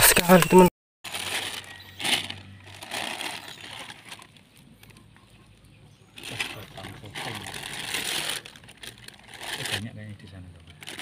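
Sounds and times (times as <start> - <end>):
plastic bag rustling: 1.0 - 5.0, 6.1 - 11.0.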